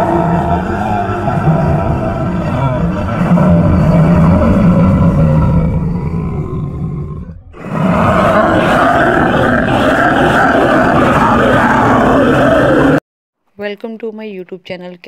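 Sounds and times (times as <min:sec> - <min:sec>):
monstrous roaring growl: 0:00.0 - 0:13.0.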